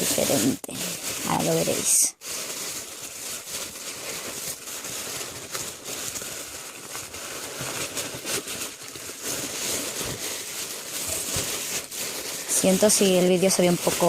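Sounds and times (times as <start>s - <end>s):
wrapping rustling and crinkling: 0.0s - 14.0s.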